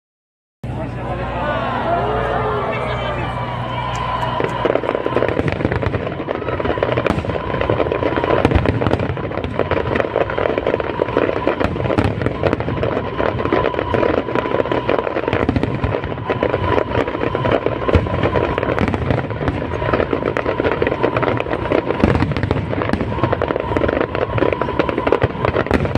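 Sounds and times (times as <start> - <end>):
fireworks crackling and popping: 2.4 - 25.9.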